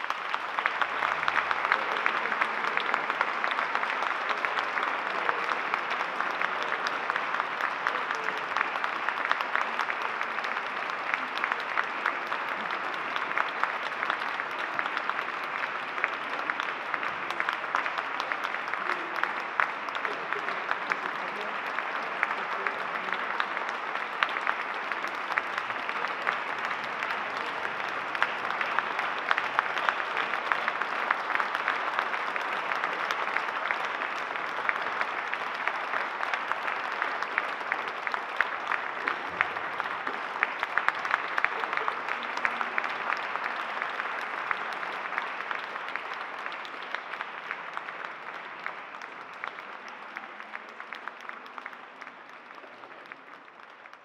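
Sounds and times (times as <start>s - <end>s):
audience applauding: 0.0s - 54.0s.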